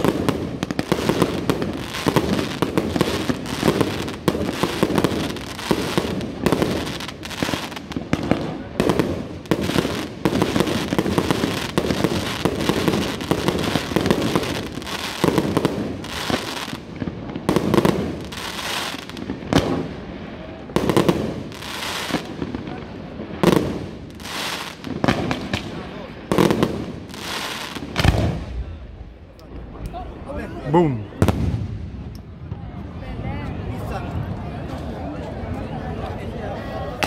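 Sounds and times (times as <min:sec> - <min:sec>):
fireworks firing and bursting: 0:00.0 - 0:29.7, 0:31.1 - 0:34.4.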